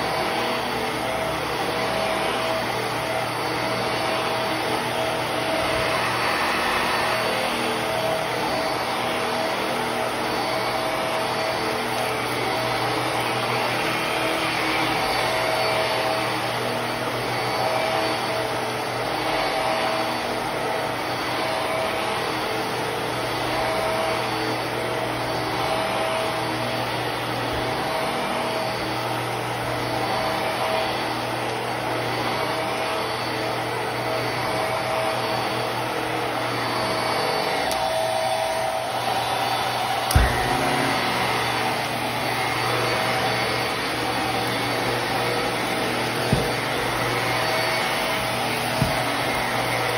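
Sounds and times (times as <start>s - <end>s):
upright vacuum running on carpet: 0.0s - 49.9s.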